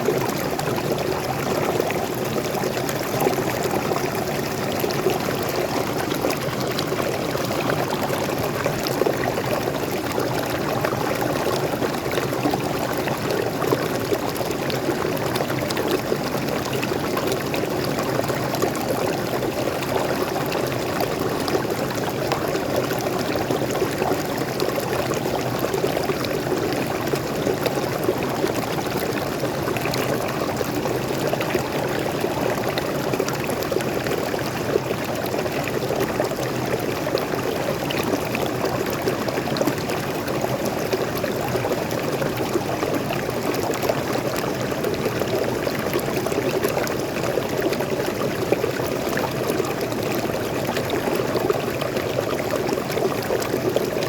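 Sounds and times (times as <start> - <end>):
stream water splashing and flowing: 0.0 - 54.0.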